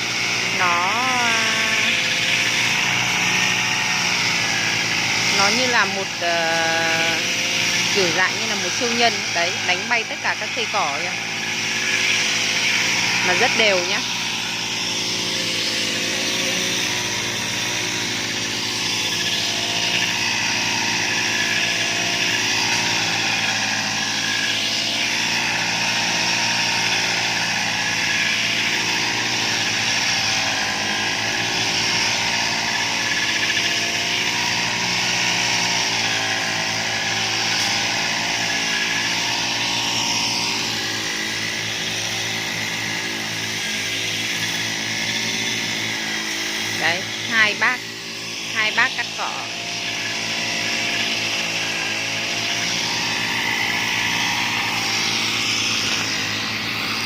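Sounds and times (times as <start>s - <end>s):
motorised grass cutter running: 0.0s - 57.0s.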